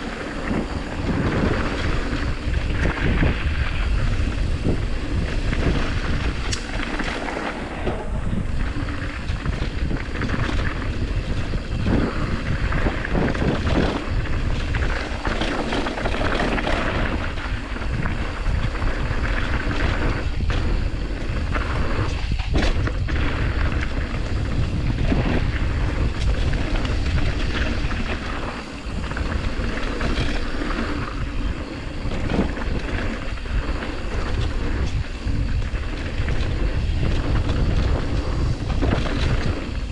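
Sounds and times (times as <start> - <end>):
bike rattling over rough ground: 0.0 - 39.9
bike tyre noise: 0.0 - 39.9
wind rushing over microphone: 0.0 - 39.9.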